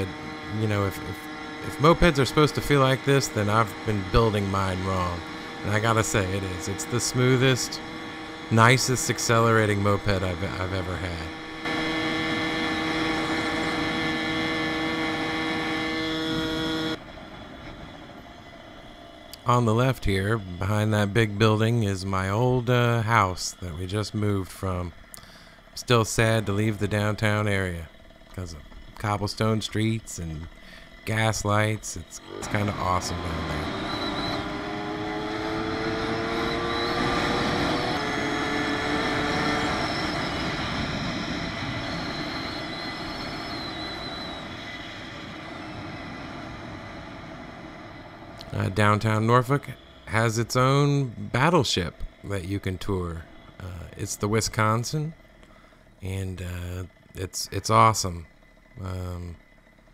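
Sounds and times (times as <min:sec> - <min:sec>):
wind and road noise: 0:00.0 - 0:56.0
moped engine cruising: 0:00.0 - 0:59.9.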